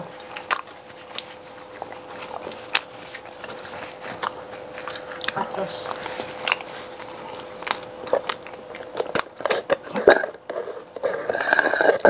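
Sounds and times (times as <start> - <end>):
faint steady hum: 0.0 - 12.0
person chewing and biting: 0.0 - 12.0.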